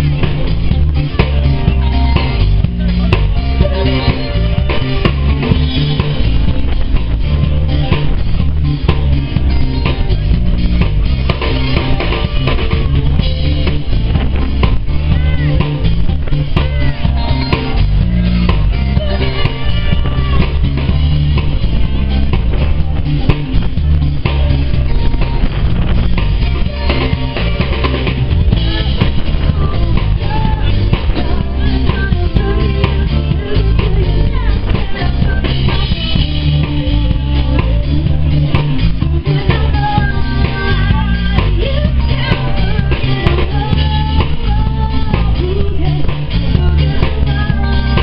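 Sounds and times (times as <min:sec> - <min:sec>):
disco band playing live: 0:00.0 - 0:48.0.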